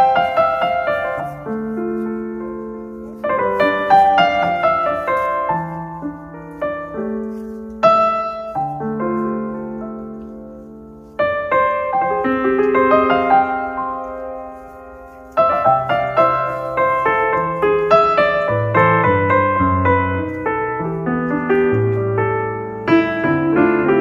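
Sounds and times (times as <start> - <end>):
soft solo piano music: 0.0 - 24.0.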